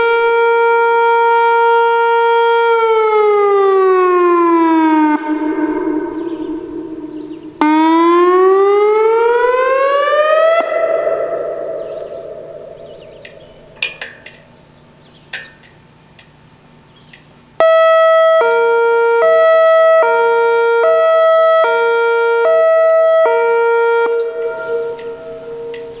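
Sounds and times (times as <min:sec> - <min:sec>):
hi-lo electronic siren: 0:00.0 - 0:13.8, 0:17.6 - 0:26.0.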